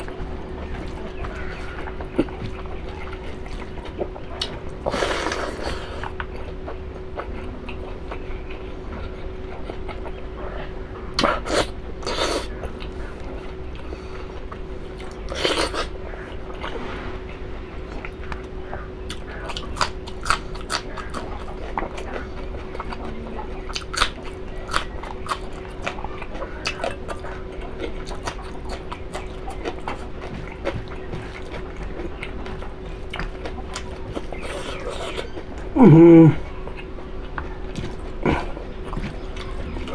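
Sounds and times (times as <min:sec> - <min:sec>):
wet chewing clicks: 0:00.0 - 0:16.7, 0:17.9 - 0:35.8
steady low hum: 0:00.0 - 0:39.9.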